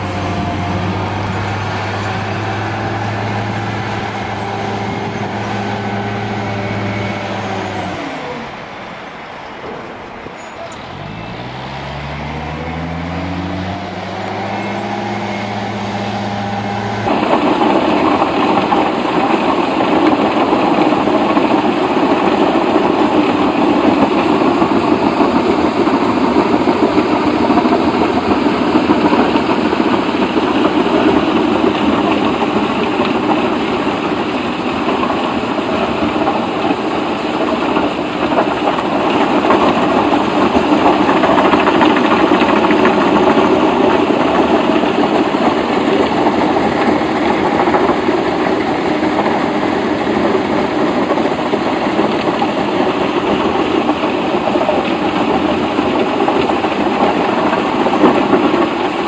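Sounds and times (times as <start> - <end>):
large machine engine revving: 0.0 - 9.2, 10.7 - 59.0
coarse machine noise: 0.0 - 59.0.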